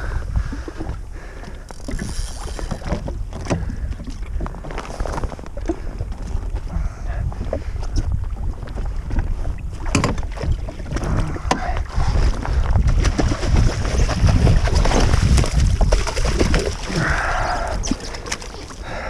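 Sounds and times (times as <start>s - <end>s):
water sloshing against jet ski: 0.0s - 19.0s
wind buffeting microphone: 0.0s - 19.0s.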